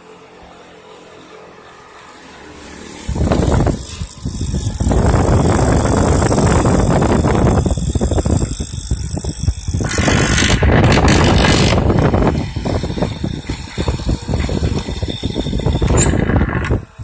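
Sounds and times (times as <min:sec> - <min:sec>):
mortising machine cutting wood: 0:00.0 - 0:17.0.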